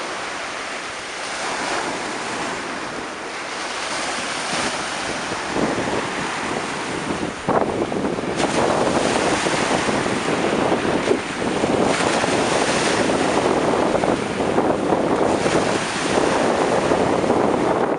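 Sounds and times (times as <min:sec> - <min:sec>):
surf breaking on shore: 0:00.0 - 0:17.9
wind buffeting microphone: 0:00.0 - 0:17.9.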